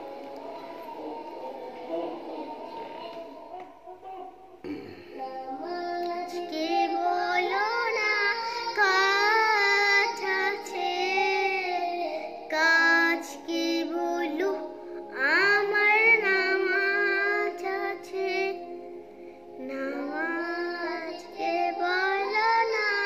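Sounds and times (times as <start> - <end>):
boy singing: 0.0 - 18.8, 19.6 - 23.0.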